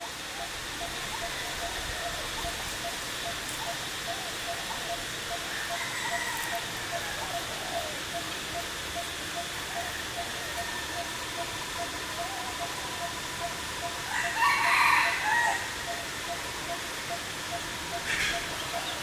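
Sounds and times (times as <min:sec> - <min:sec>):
faint high steady tones: 0:00.0 - 0:19.0
steady hiss: 0:00.0 - 0:19.0.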